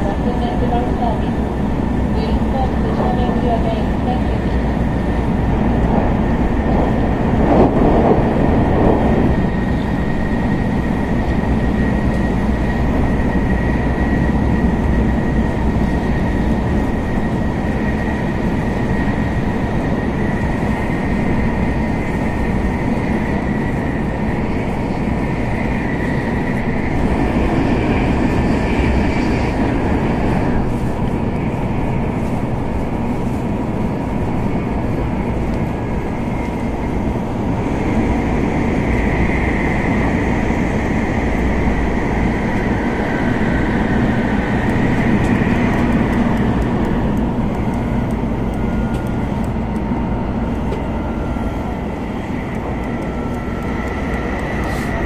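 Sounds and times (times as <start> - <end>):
train running and wind rumble: 0.0 - 55.0.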